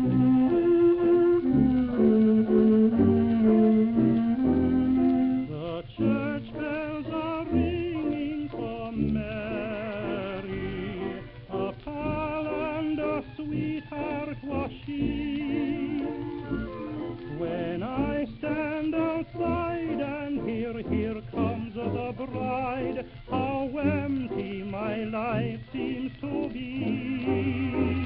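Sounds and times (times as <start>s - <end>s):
dance orchestra waltz on old record: 0.0s - 28.0s.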